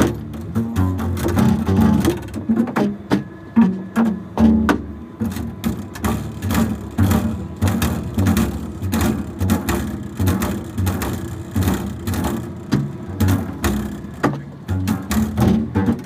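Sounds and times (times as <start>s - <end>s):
double bass percussive strokes: 0.0s - 16.0s.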